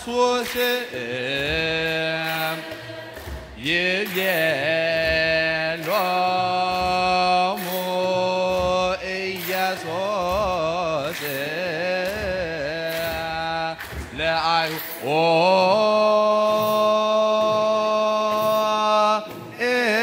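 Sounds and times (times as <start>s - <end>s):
choir chanting a hymn in unison: 0.0s - 20.0s.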